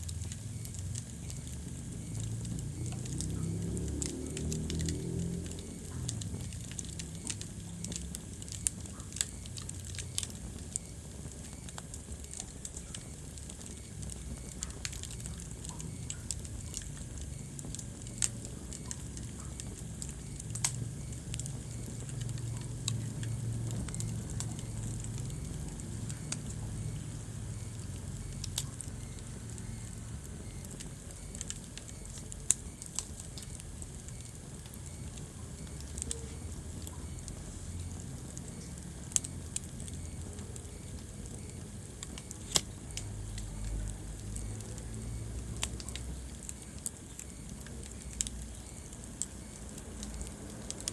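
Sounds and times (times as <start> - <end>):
low steady rumble: 0.0 - 50.9
wood fire crackling and popping: 0.0 - 50.9.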